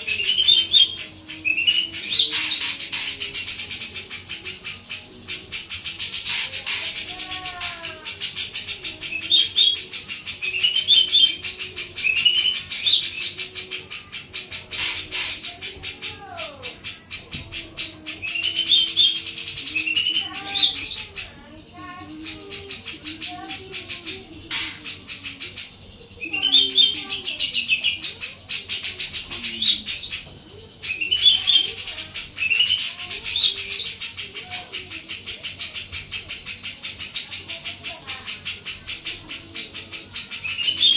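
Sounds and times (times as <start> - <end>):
bird rattling song: 0.0 - 40.9
bright bird chirps: 0.0 - 40.9.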